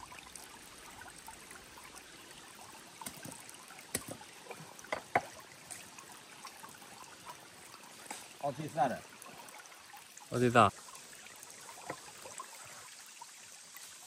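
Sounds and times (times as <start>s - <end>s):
creek trickling: 0.0s - 14.0s.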